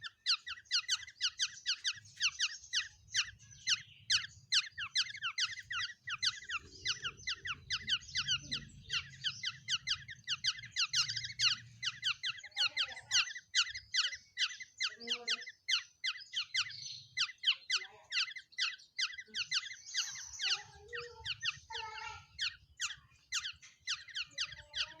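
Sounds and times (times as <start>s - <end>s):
caged songbird chirping: 0.0s - 25.0s.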